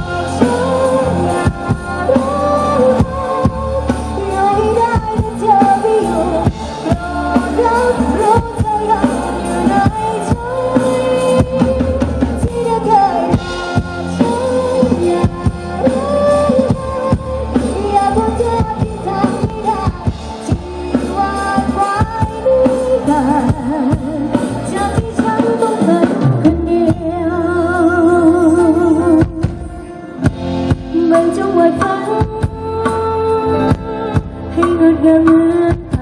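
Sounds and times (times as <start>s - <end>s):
live band over loudspeakers: 0.0s - 36.0s
woman singing: 0.0s - 36.0s.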